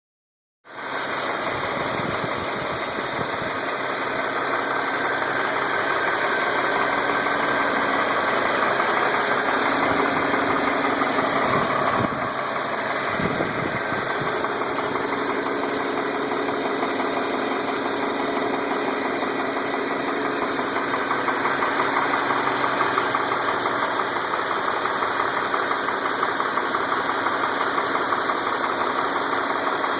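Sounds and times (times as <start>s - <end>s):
car engine running: 0.7s - 29.9s
rapid engine ticking: 0.7s - 29.9s.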